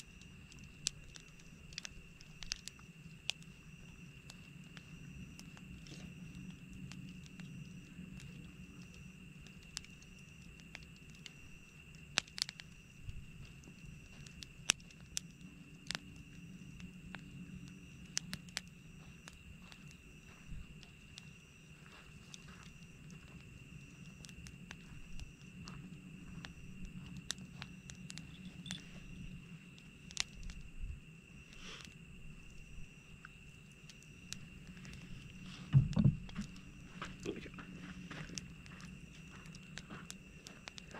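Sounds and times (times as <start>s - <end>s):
campfire crackling and popping: 0.0s - 40.9s
high insect trill: 0.0s - 40.9s.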